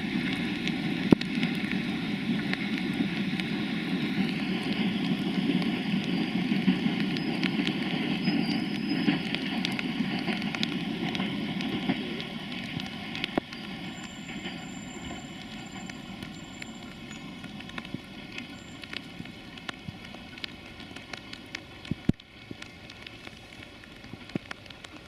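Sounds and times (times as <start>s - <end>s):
freight train rumbling: 0.0s - 24.9s
raindrops pattering: 0.0s - 25.0s.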